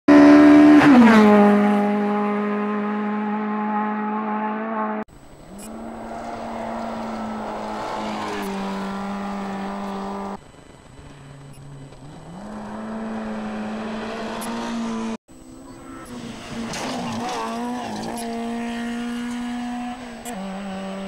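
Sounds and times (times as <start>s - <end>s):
rally car engines at high revs: 0.1s - 21.0s.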